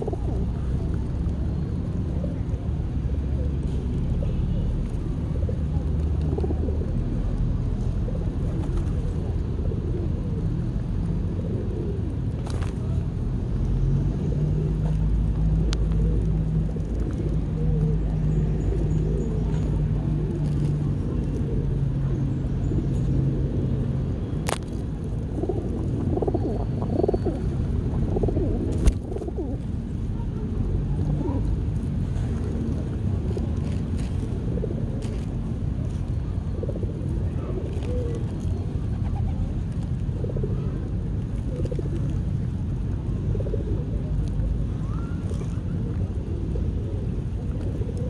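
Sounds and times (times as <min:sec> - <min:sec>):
pigeons cooing: 0:00.0 - 0:07.3, 0:07.9 - 0:13.0, 0:14.0 - 0:24.3, 0:25.2 - 0:48.0
steady low rumble: 0:00.0 - 0:48.0.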